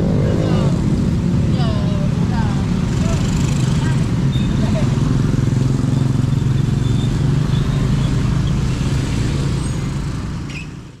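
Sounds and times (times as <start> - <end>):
vehicle engines humming: 0.0 - 11.0.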